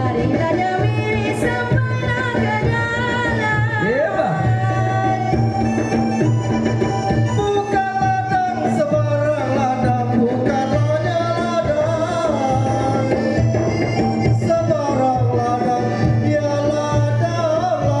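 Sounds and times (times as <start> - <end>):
frame drums beating: 0.0 - 18.0
keyboard melody: 0.0 - 18.0.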